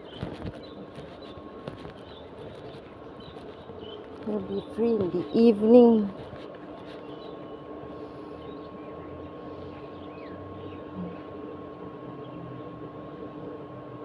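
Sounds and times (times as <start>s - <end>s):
steady two-tone hum: 0.0s - 14.0s.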